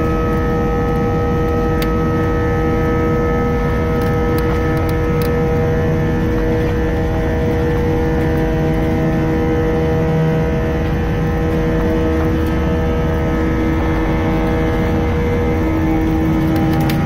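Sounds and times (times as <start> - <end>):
airliner engines droning in cabin: 0.0 - 17.0.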